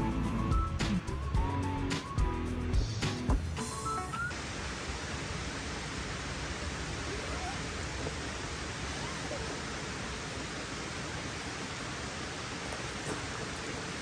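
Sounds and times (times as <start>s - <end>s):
forest rushing ambience: 2.6s - 14.0s.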